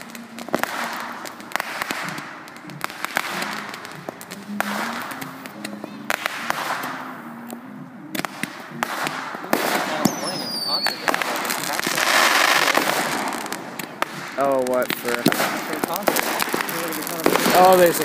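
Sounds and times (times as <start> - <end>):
distant concert music: 0.0 - 18.0
fireworks cracking and crackling: 0.0 - 18.0.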